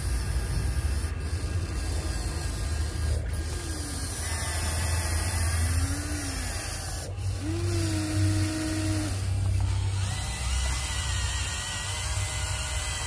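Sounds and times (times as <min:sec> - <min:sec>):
small electric motors whirring: 0:00.0 - 0:13.0.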